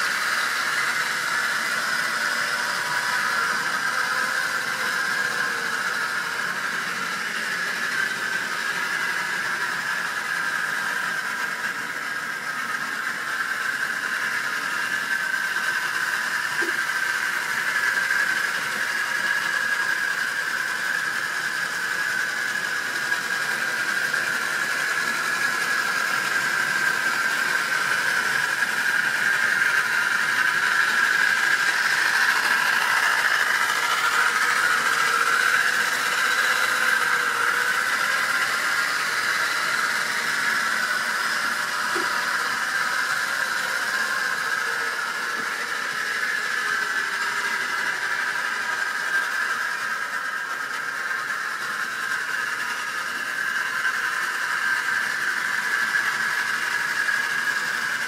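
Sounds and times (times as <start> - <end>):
model train motor whine: 0.0 - 58.0
wheels running on track: 0.0 - 58.0.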